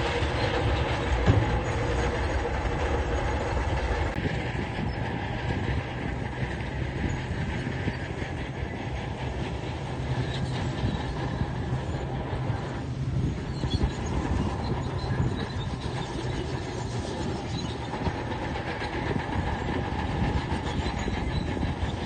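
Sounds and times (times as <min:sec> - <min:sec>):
diesel engine running: 0:00.0 - 0:22.0
steel tracks clanking: 0:00.0 - 0:22.0.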